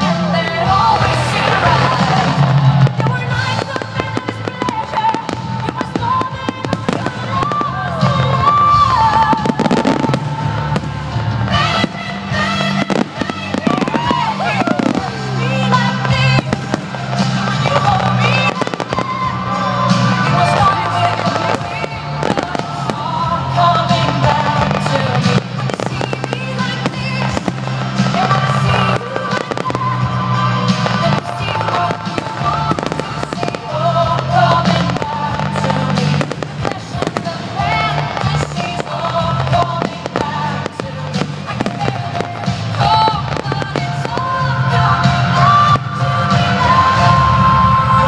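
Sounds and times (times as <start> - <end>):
fireworks crackling and banging: 0.0 - 48.0
loud music: 0.0 - 48.0.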